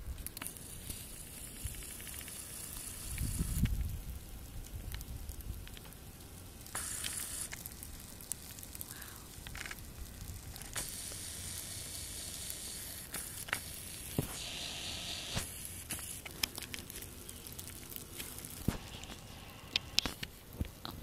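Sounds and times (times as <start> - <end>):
small clicks and ticks: 0.0 - 14.4, 15.3 - 21.0
snow hissing in a blizzard: 0.0 - 20.6.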